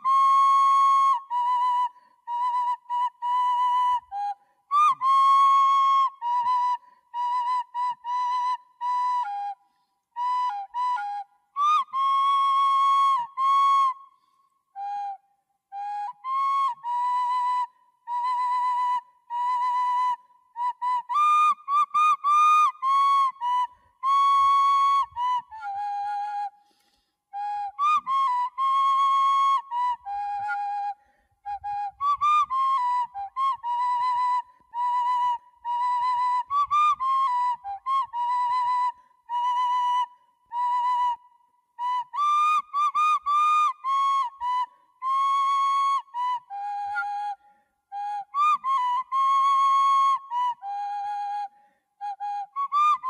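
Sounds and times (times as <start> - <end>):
solo flute-like melody: 0.0 - 53.0.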